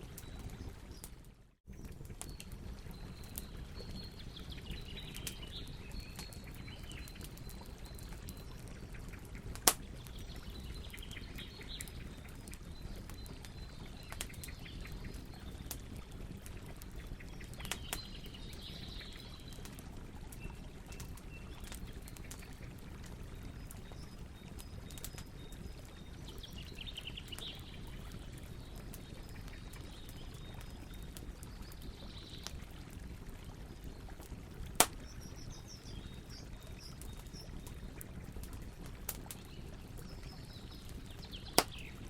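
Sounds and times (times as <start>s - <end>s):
birds chirping faintly: 0.0s - 42.0s
campfire crackling and popping: 0.0s - 42.0s
low rumble of flames: 0.0s - 42.0s.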